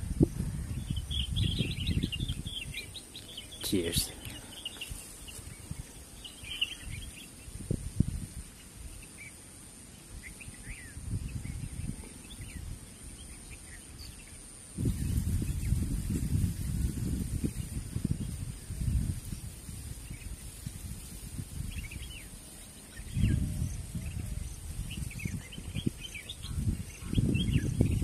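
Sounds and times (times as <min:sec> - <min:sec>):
wind buffeting microphone: 0:00.0 - 0:09.1, 0:10.7 - 0:13.4, 0:14.8 - 0:28.0
small birds chirping: 0:00.0 - 0:28.0.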